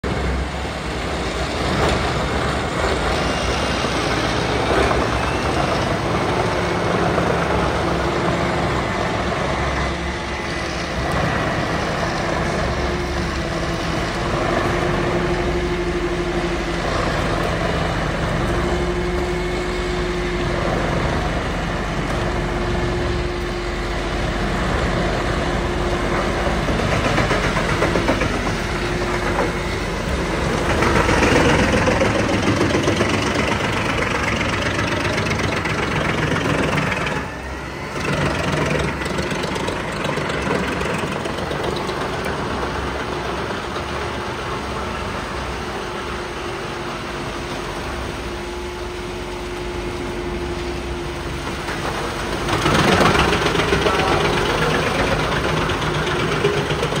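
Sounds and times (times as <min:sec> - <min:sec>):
wood chipper running: 0:00.0 - 0:57.0.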